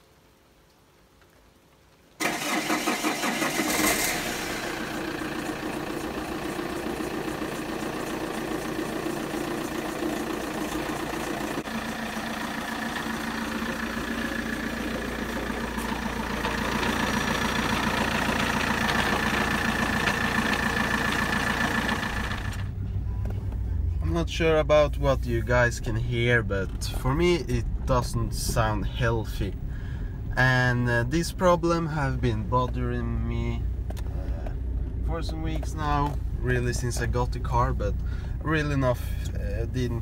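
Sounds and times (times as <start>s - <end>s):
diesel car engine starting and idling: 2.2s - 40.0s.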